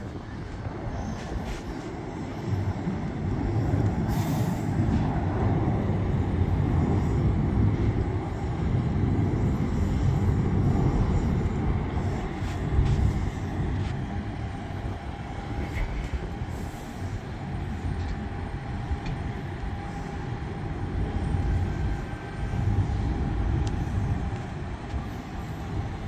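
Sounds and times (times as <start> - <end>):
distant jet airliner rumble: 0.0 - 26.0
wind on microphone: 0.0 - 26.0.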